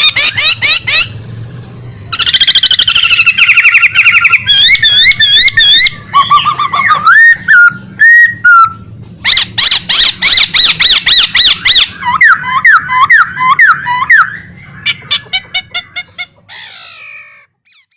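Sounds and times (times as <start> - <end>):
songbird singing: 0.0 - 17.9.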